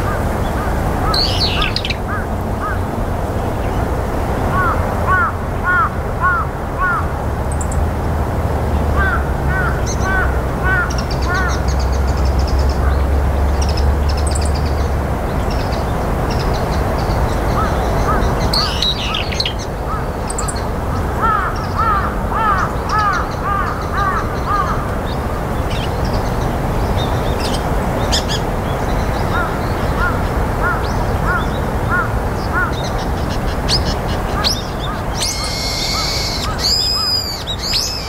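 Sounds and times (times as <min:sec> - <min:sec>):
bird calls: 0:00.0 - 0:02.8, 0:09.0 - 0:38.0
steady background hiss: 0:00.0 - 0:38.0.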